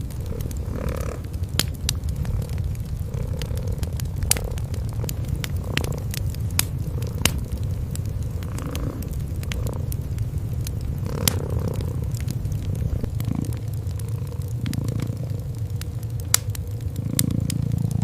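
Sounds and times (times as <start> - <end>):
cats purring: 0.0 - 18.0
wood fire crackling: 0.0 - 18.0.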